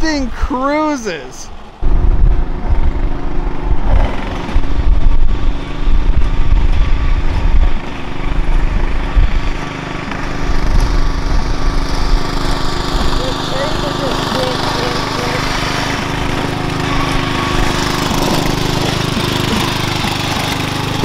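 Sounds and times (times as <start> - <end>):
lawnmower engine running: 0.0 - 21.0.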